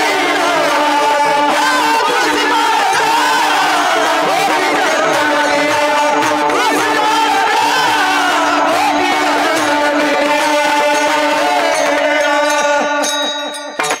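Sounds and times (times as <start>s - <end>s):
person singing: 0.0s - 13.8s
drum strokes: 0.0s - 14.0s.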